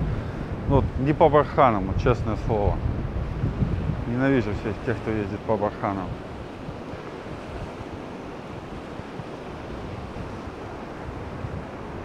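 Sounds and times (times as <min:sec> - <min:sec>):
surf breaking on sandy beach: 0:00.0 - 0:12.0
wind on microphone: 0:00.0 - 0:12.0.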